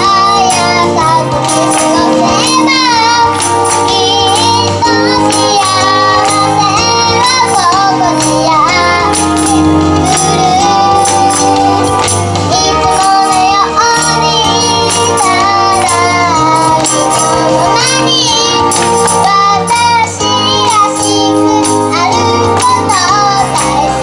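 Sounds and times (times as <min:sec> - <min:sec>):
backing track with bass line: 0:00.0 - 0:24.0
girl singing pop song: 0:00.0 - 0:24.0.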